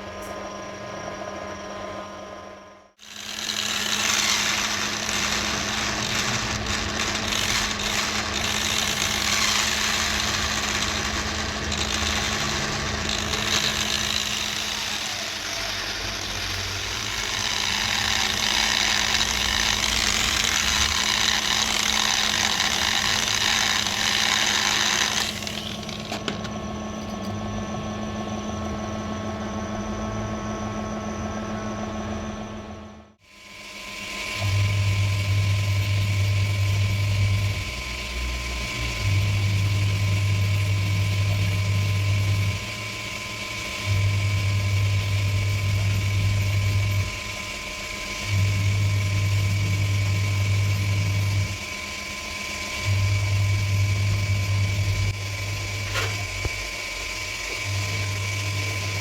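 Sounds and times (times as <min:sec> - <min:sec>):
polishing machine motor humming: 0:03.0 - 0:27.6, 0:34.5 - 0:59.0.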